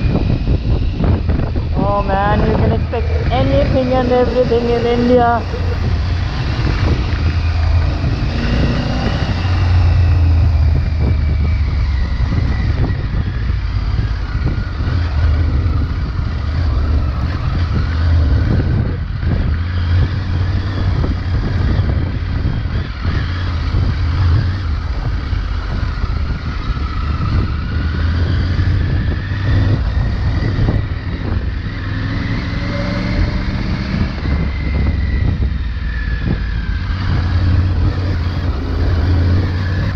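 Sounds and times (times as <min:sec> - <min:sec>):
low rumble and ride noise: 0:00.0 - 0:39.9
motorcycle engine revving: 0:00.0 - 0:39.9.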